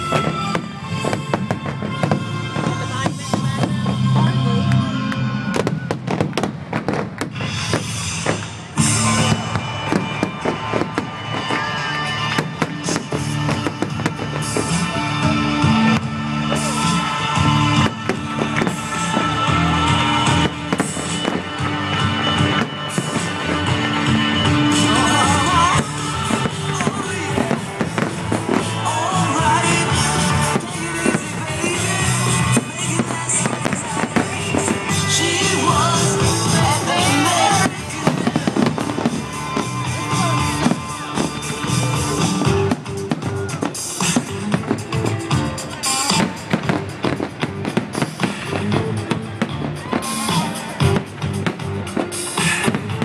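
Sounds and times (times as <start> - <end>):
fireworks bangs and crackles: 0.0 - 53.0
music: 0.0 - 53.0.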